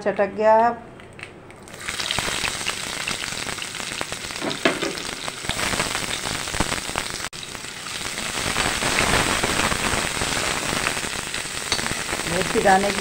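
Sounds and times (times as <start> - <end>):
onions sizzling in hot oil: 1.7 - 13.0.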